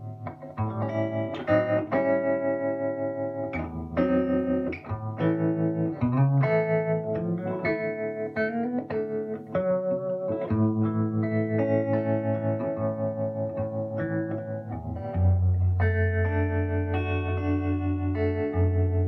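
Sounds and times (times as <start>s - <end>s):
electric guitar chords and notes: 0.0s - 19.0s.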